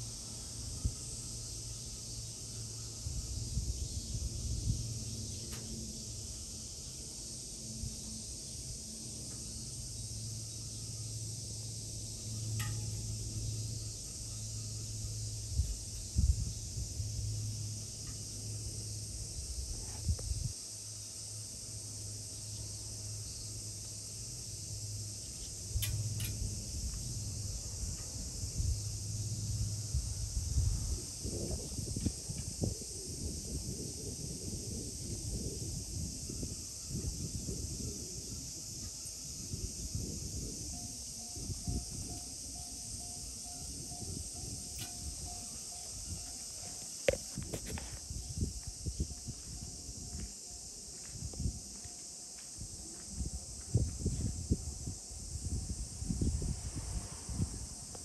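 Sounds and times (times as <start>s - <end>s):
low hum: 0.0s - 20.5s, 21.6s - 51.7s
insect chorus: 0.0s - 58.0s.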